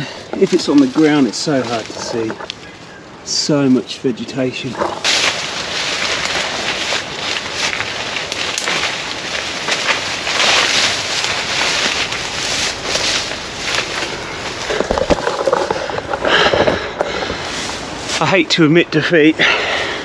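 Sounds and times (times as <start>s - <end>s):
branches rustling and crackling: 0.0s - 20.0s.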